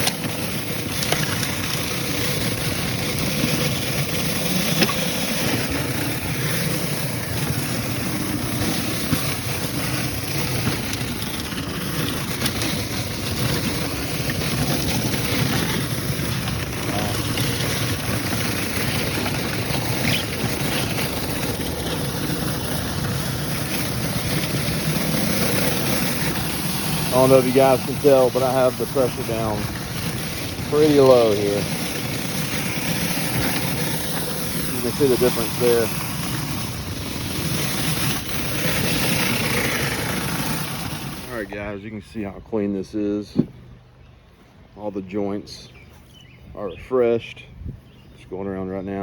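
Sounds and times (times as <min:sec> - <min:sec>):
water jet spraying: 0:00.0 - 0:41.5
pressure washer engine running: 0:00.0 - 0:41.7.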